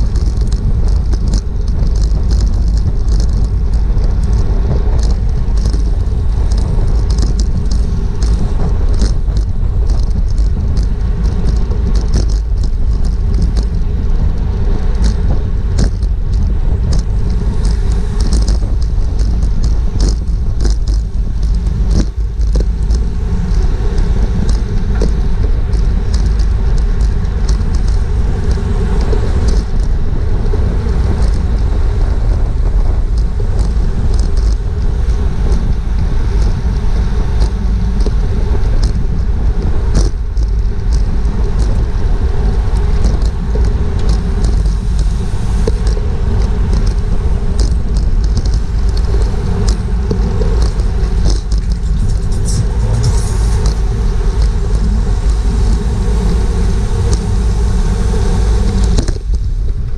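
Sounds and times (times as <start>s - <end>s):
sharp clicks and rattles: 0.0s - 59.9s
tyre and road noise: 0.0s - 59.9s
wind rumbling on microphone: 0.0s - 59.9s.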